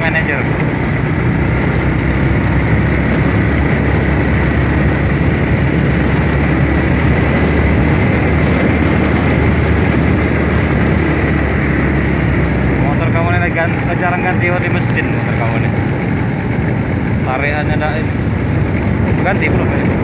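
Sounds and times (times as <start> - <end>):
motorcycle engine droning: 0.0 - 20.0.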